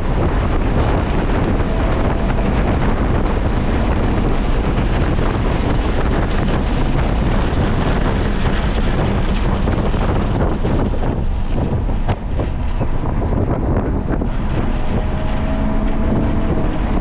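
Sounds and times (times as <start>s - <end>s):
car driving at speed: 0.0s - 17.0s
wind buffeting microphone: 0.0s - 17.0s.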